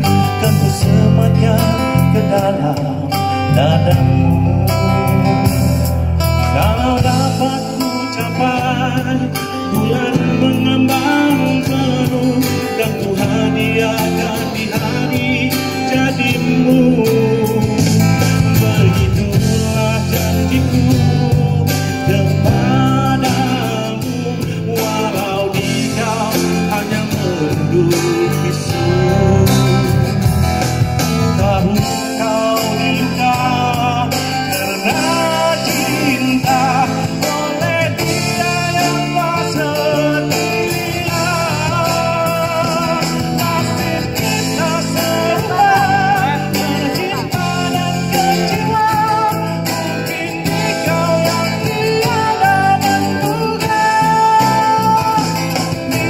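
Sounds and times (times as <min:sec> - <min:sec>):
acoustic guitar: 0:00.0 - 0:56.0
man singing a ballad: 0:00.0 - 0:56.0.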